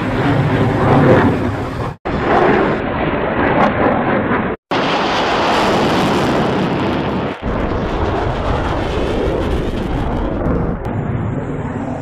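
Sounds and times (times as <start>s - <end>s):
loud jet engine roar: 0.0s - 12.0s.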